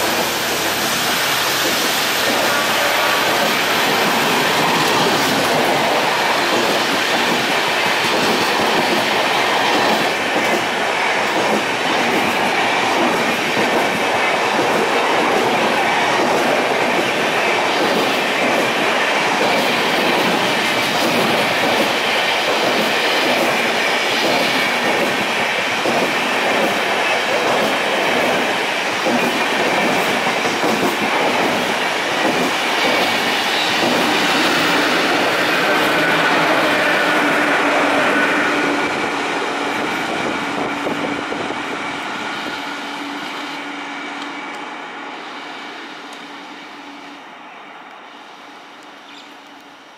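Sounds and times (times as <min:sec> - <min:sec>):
train wheels rumbling on rails: 0:00.0 - 0:47.2.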